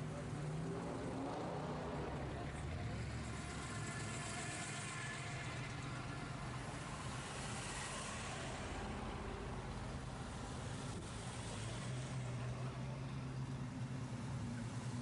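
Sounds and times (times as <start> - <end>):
car engines at low speed: 0.0 - 15.0.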